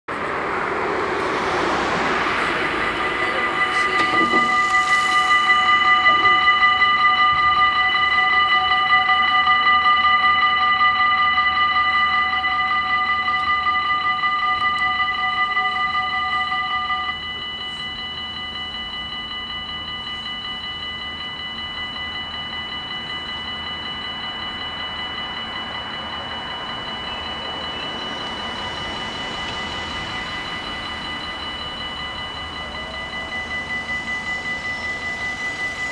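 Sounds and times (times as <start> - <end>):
level-crossing bells ringing: 0.9 - 35.9
quieter bell ringing: 2.0 - 35.9.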